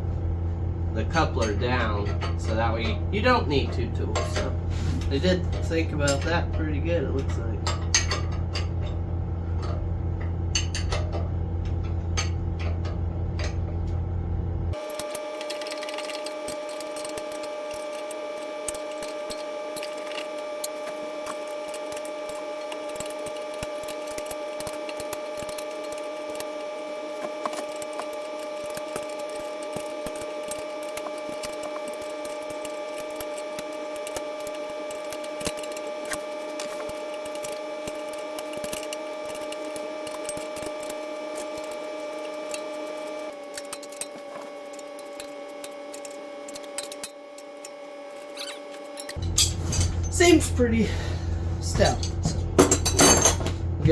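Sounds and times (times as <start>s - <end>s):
mini excavator running: 0.0s - 53.9s.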